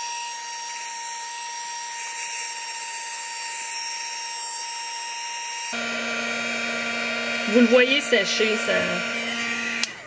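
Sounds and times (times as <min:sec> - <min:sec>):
heat gun fan hiss and whine: 0:00.0 - 0:10.0.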